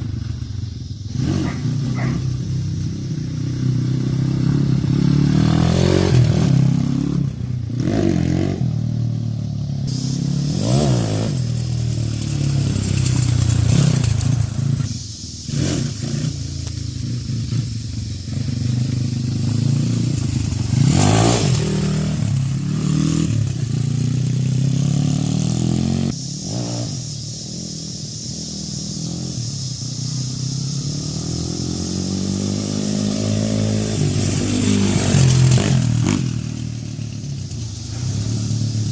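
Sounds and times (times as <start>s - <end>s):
small motorbike engine revving: 0.0s - 38.9s.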